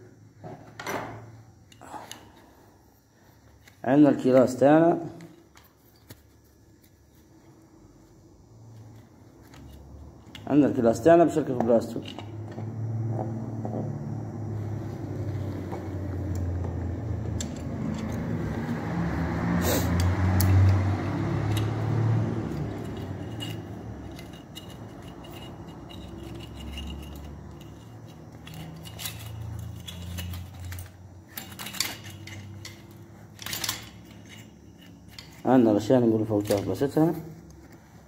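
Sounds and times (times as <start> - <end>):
metal parts clinking and scraping: 0.7 - 7.4, 8.7 - 12.7, 15.3 - 18.6, 19.7 - 38.0.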